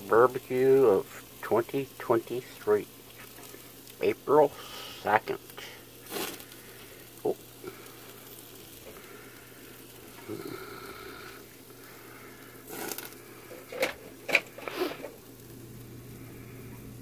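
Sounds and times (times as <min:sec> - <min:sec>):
meat sizzling on a grill: 0:00.0 - 0:17.0.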